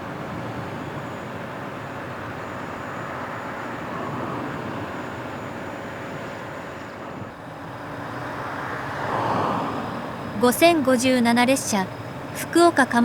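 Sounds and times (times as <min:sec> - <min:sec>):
faint high whine: 0:00.0 - 0:13.0
vehicle rumbling: 0:00.0 - 0:13.0.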